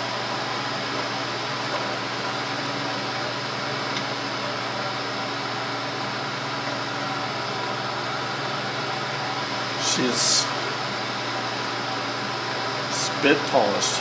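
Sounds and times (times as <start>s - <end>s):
machine hum with hiss: 0.0s - 14.0s.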